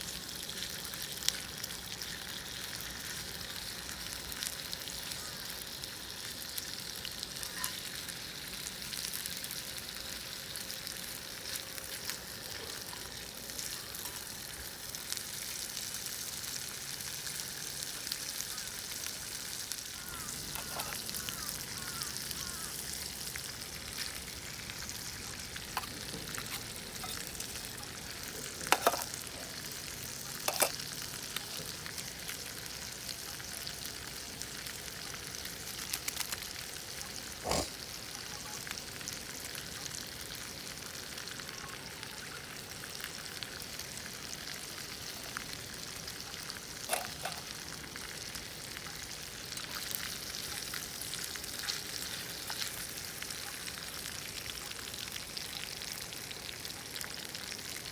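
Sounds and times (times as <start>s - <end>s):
potatoes sizzling in a pan: 0.0s - 57.9s.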